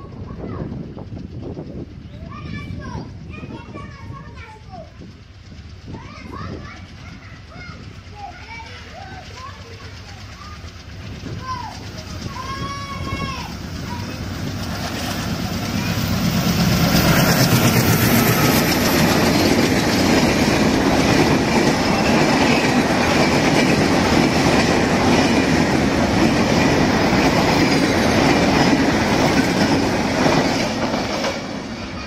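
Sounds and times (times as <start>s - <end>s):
passenger train passing at speed: 0.0s - 32.0s
wheels clattering over rails: 0.4s - 32.0s.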